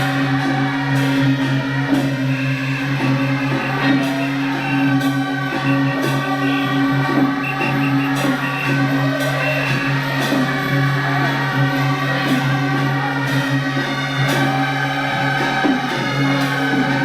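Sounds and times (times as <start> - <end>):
music of held layered tones: 0.0 - 17.0.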